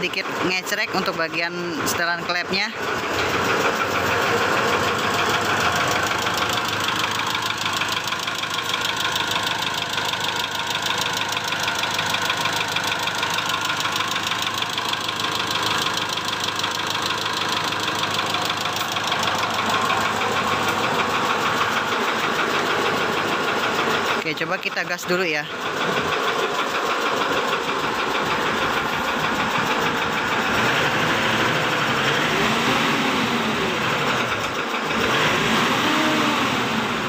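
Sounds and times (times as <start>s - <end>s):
engine idling with ticking knock: 0.0s - 37.0s.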